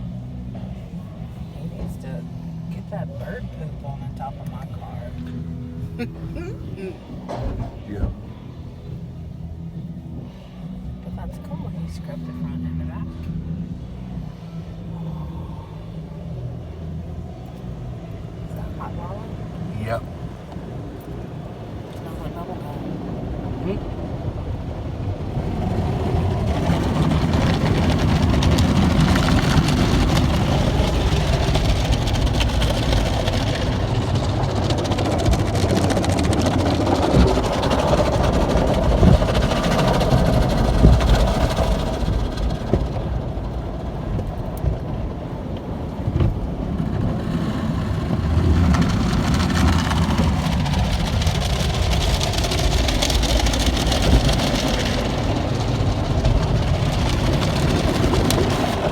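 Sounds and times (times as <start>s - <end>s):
car wash water spray and machinery: 0.0s - 58.9s.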